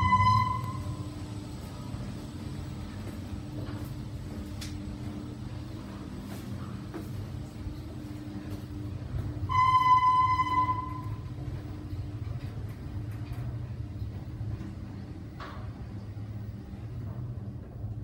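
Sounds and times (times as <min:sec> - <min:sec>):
lift car humming: 0:00.0 - 0:18.0.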